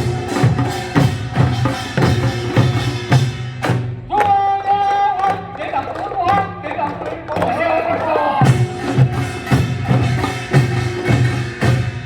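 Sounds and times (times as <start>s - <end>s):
drum strikes: 0.0s - 4.6s, 6.3s - 12.0s.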